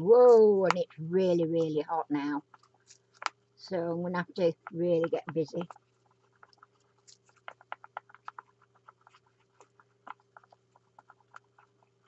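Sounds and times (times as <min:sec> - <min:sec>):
stirring stick scraping plastic cup: 0:00.0 - 0:12.0.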